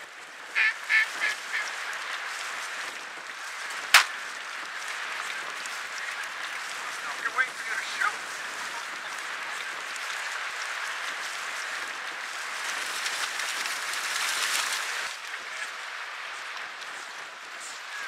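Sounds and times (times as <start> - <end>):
wind and waves hiss: 0.0 - 18.0.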